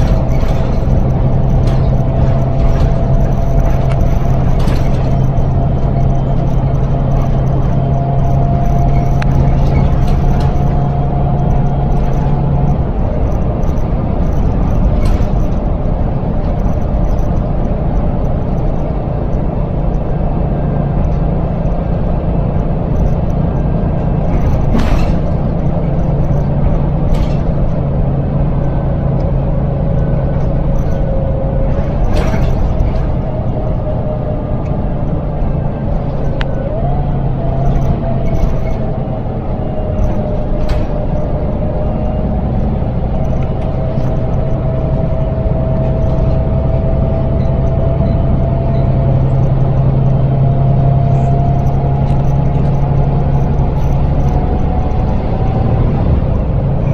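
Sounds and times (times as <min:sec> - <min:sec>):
bus body knocks and rattles: 0:00.0 - 0:56.9
diesel bus engine drone: 0:00.0 - 0:56.9
thin engine whine: 0:00.0 - 0:56.9.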